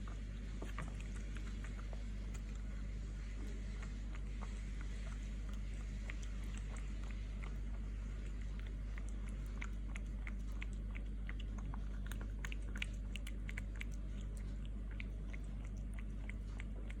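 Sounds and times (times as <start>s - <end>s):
cat chewing food: 0.0s - 17.0s
steady low hum: 0.0s - 17.0s.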